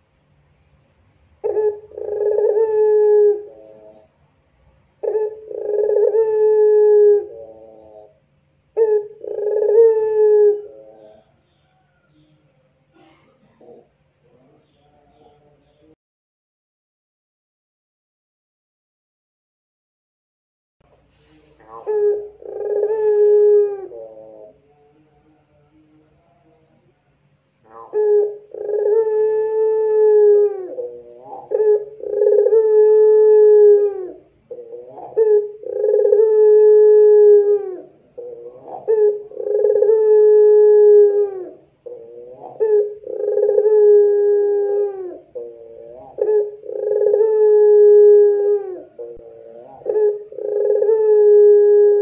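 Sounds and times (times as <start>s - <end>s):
dove cooing: 1.4s - 16.0s, 21.3s - 26.9s, 27.6s - 52.0s.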